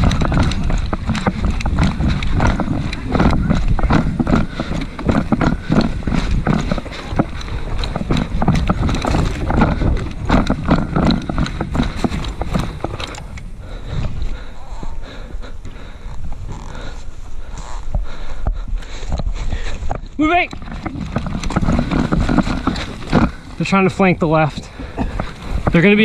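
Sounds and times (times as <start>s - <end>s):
footsteps running: 0.0s - 26.0s.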